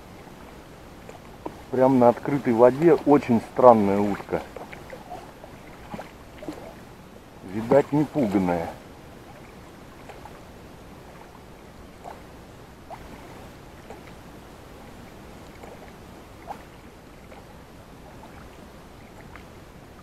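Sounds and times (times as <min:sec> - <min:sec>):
low hiss: 0:00.0 - 0:20.0
water lapping against boat hull: 0:00.0 - 0:20.0.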